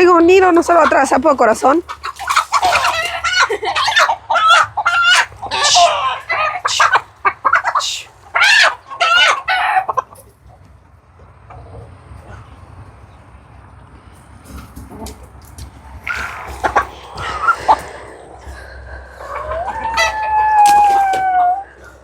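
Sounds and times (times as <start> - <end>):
chicken squawking and clucking: 1.7 - 12.8, 14.6 - 22.0.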